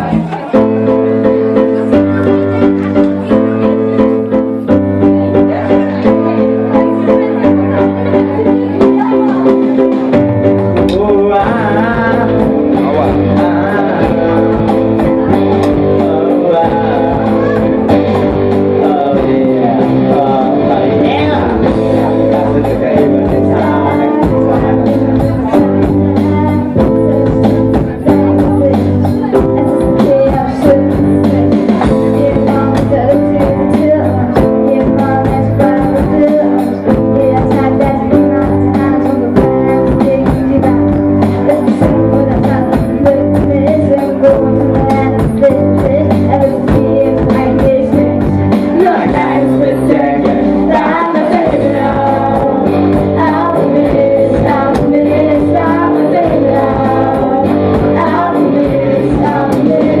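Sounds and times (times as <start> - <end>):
guitar: 0.0 - 60.0
person singing: 0.0 - 60.0
rock band playing live: 0.0 - 60.0
steady drum beat: 8.8 - 60.0.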